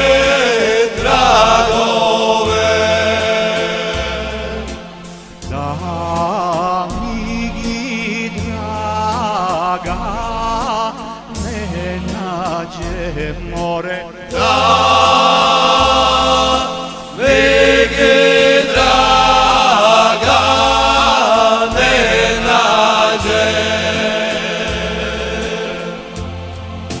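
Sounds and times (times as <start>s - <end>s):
men's vocal group singing: 0.0s - 27.0s.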